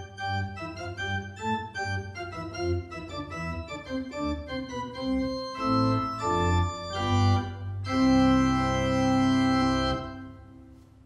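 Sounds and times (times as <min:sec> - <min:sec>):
organ chords: 0:00.0 - 0:11.0.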